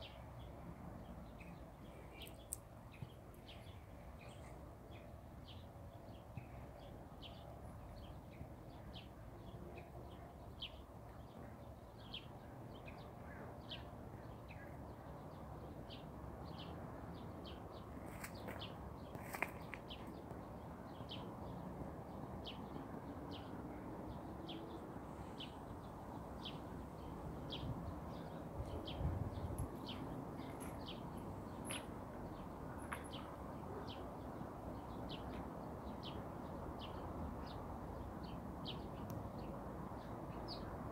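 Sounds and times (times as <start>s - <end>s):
songbird chirping: 0.0s - 40.8s.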